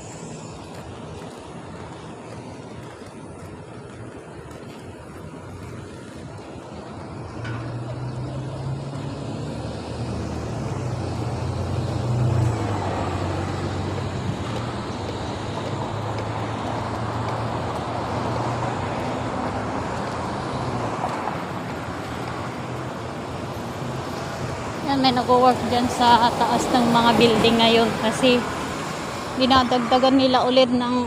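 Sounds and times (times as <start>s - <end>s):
road traffic passing: 0.0s - 31.0s.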